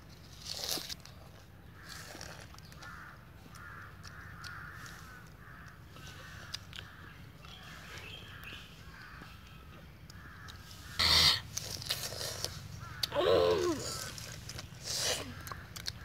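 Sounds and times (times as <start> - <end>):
fruit being bitten and chewed: 0.0 - 16.0
bird calling: 1.8 - 16.0.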